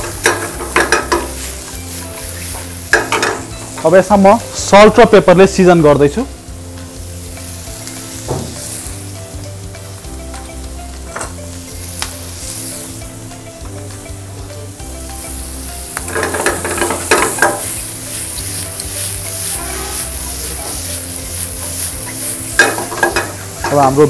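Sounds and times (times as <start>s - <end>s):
soft background music: 0.0s - 24.0s
vegetables sizzling in a frying pan: 0.0s - 24.0s.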